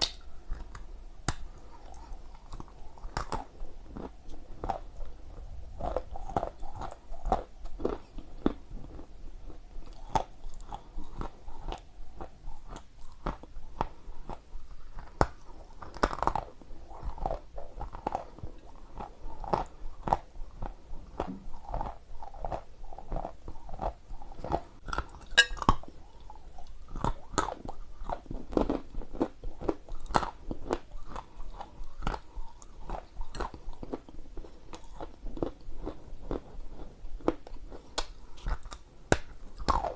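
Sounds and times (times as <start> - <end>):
chewing crunchy clay: 0.0 - 39.9.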